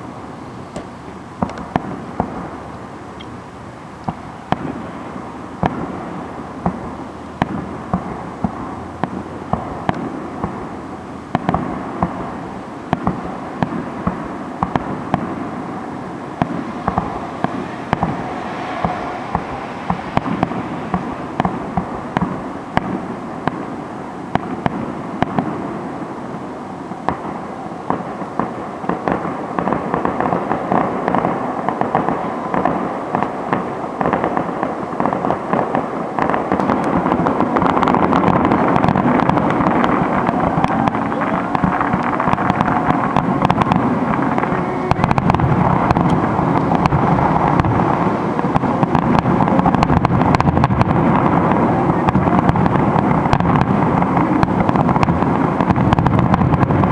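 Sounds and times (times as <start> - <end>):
fireworks bangs: 0.0 - 56.9
fireworks crackling: 0.0 - 56.9.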